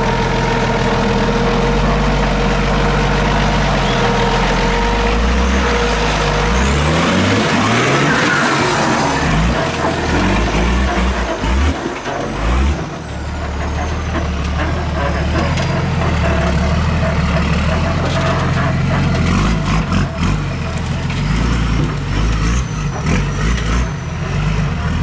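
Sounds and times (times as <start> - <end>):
four-wheel drive engine under load: 0.0 - 25.0.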